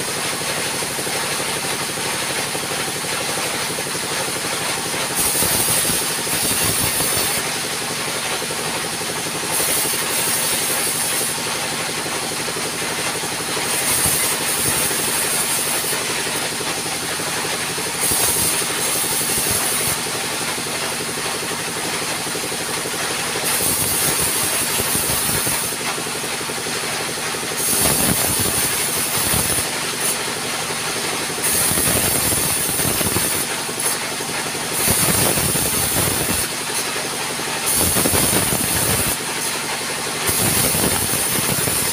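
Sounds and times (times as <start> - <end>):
band saw running: 0.0 - 41.9
saw blade hissing through log: 0.0 - 41.9.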